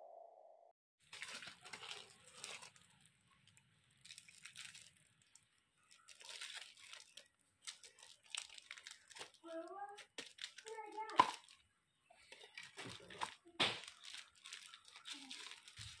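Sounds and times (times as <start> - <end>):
packaging crinkling: 1.0 - 11.6, 12.2 - 16.0.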